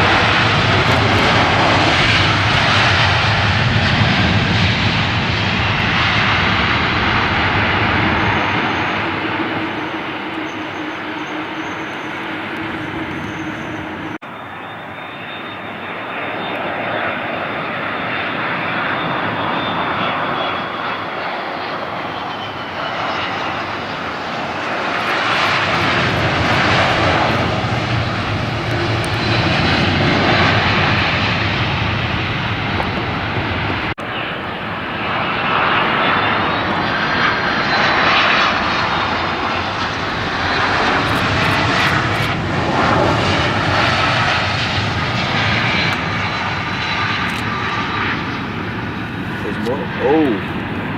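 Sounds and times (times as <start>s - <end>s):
jet airliner engines passing: 0.0s - 50.9s.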